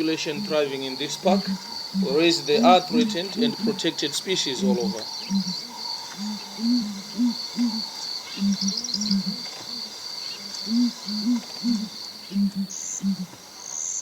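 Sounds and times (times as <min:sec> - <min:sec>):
hornbills booming deep hoots: 0:00.0 - 0:13.6
high insect trill: 0:00.0 - 0:14.0.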